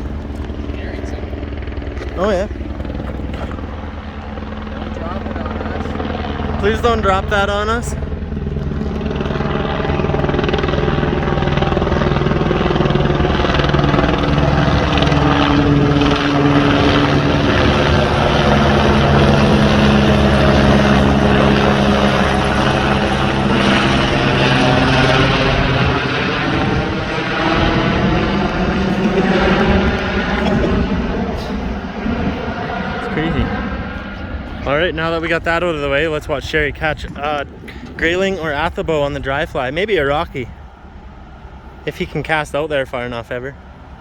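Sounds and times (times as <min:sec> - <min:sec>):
helicopter rotor and engine: 0:00.0 - 0:44.0.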